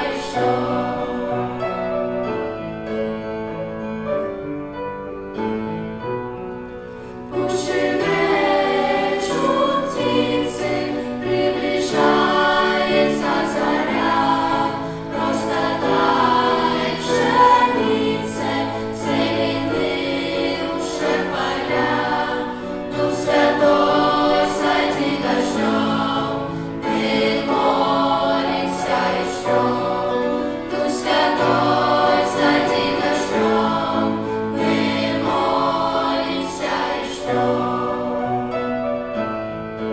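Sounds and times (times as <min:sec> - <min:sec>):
children's choir singing: 0:00.0 - 0:02.8, 0:07.3 - 0:39.0
keyboard accompaniment: 0:00.0 - 0:39.9.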